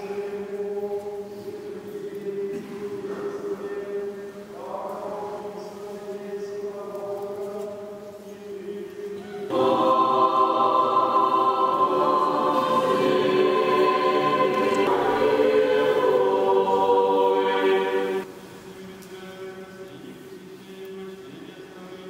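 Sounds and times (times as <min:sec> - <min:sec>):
choir singing chant: 0:00.0 - 0:18.3.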